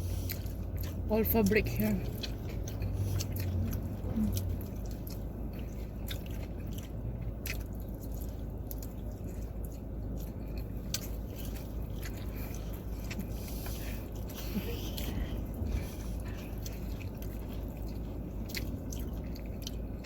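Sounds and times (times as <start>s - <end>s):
person chewing food: 0.0s - 20.0s
steady low hum: 0.0s - 20.0s.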